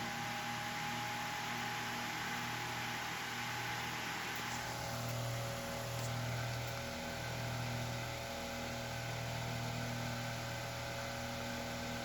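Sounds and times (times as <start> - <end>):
table fan motor hum: 0.0 - 12.0.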